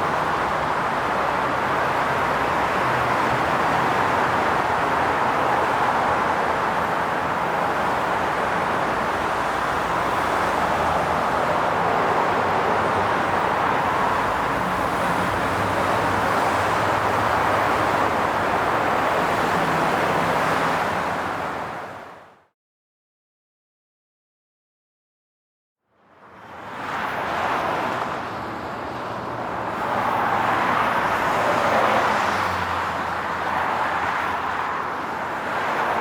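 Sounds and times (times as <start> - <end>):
highway traffic noise: 0.0 - 22.5, 25.9 - 36.0.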